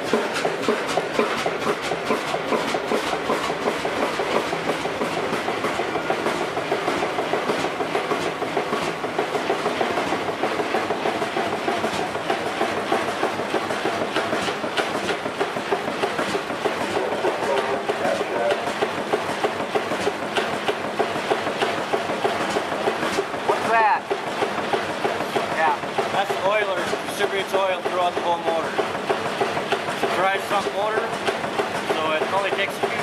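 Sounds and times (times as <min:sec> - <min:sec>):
stationary engine clattering: 0:00.0 - 0:33.0.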